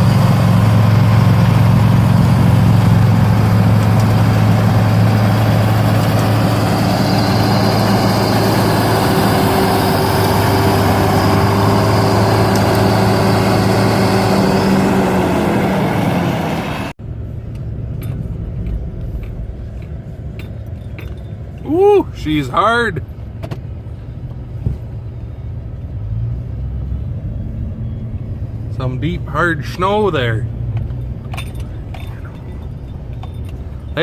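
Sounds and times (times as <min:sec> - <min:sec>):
heavy vehicle engine running: 0:00.0 - 0:34.0.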